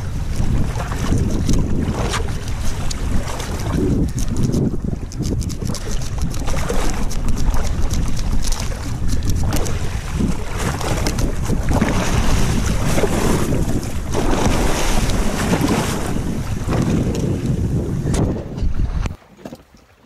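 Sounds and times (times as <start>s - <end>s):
wind buffeting microphone: 0.0s - 19.2s
water sloshing against hull: 0.0s - 20.0s.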